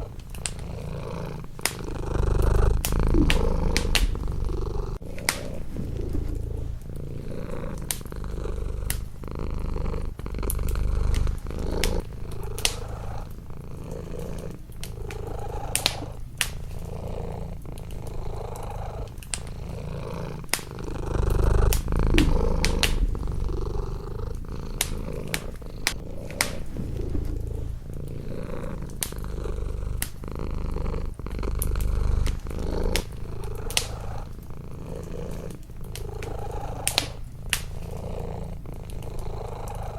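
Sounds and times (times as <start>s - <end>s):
wood fire crackling and popping: 0.0s - 39.7s
cat purring: 0.0s - 39.9s.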